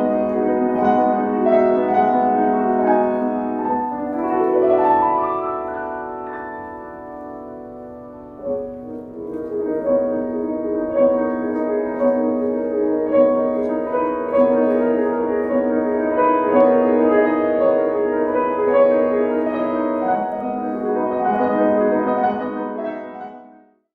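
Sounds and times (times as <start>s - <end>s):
slow piano chords: 0.0s - 23.9s.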